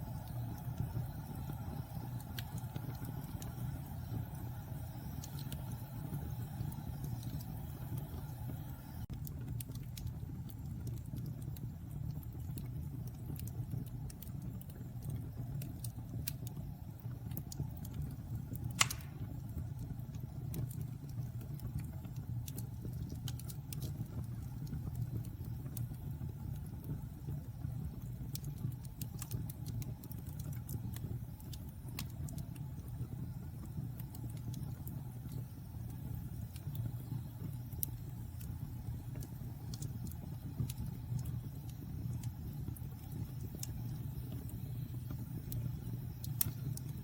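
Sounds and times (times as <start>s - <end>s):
fire popping: 0.0s - 47.0s
fire rumbling and crackling: 0.0s - 47.0s.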